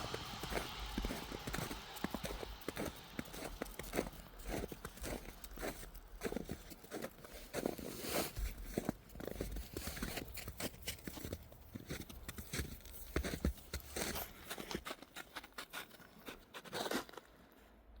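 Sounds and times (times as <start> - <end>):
footsteps crunching and rustling: 0.0 - 17.4.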